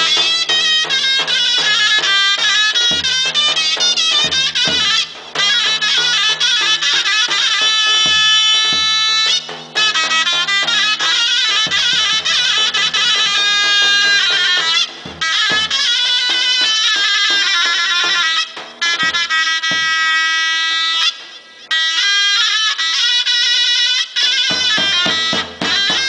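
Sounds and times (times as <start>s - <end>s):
shawm playing piercing melody: 0.0s - 26.0s.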